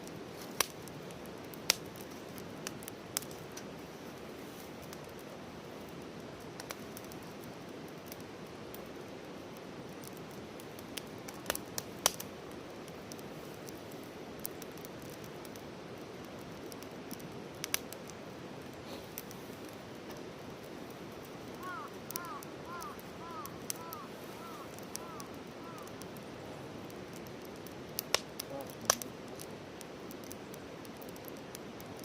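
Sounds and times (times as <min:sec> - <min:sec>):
campfire crackling and popping: 0:00.0 - 0:32.0
fire hissing: 0:00.0 - 0:32.0.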